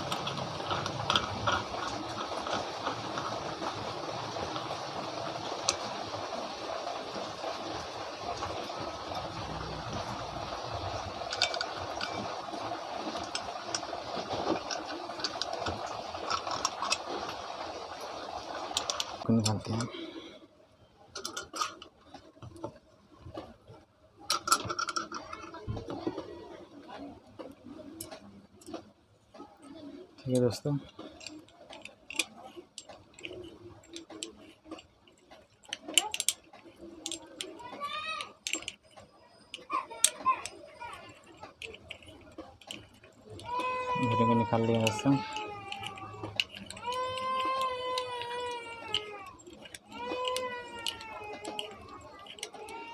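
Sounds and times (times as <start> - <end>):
small clicks and scrapes: 0.0 - 20.1, 21.1 - 52.9.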